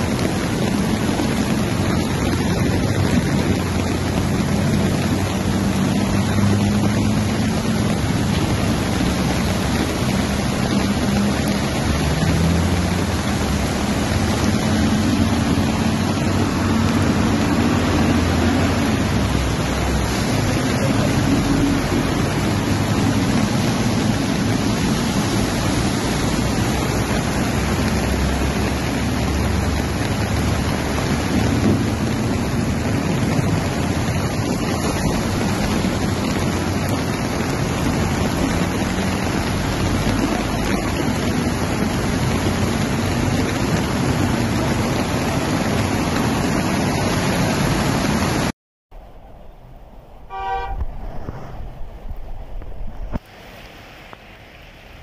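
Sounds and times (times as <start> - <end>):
flowing floodwater: 0.0 - 55.0
heavy rain: 0.0 - 55.0
traffic driving through water: 0.0 - 55.0.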